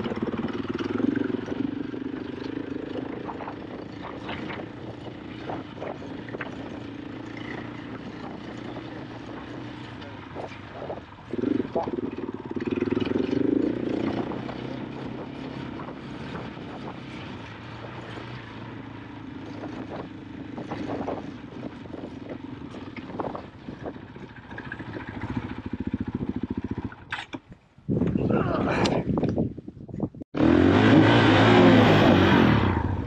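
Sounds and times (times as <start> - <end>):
dirt bike engine running: 0.0 - 27.2.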